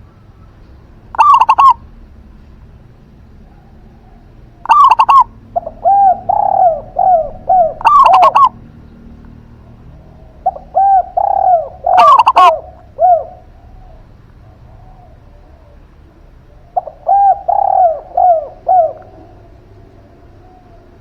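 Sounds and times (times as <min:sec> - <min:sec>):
doves cooing: 0:00.0 - 0:21.0.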